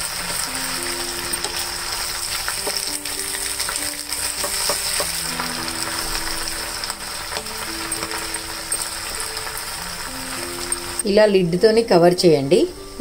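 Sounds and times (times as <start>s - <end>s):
leaves sizzling in hot oil: 0.0s - 13.0s
soft background music: 0.0s - 13.0s.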